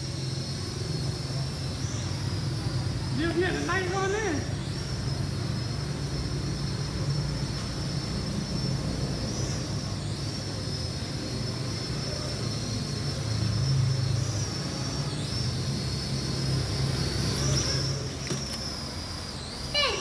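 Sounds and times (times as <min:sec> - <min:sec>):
toy drone propellers whining: 0:00.0 - 0:20.0.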